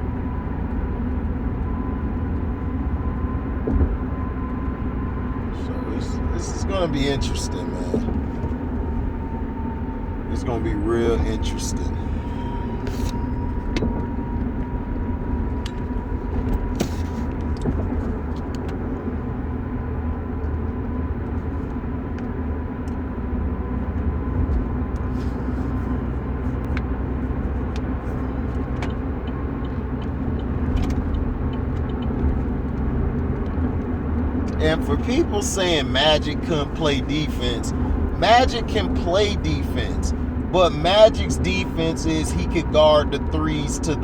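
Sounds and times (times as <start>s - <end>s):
car rumbling in motion: 0.0s - 44.0s.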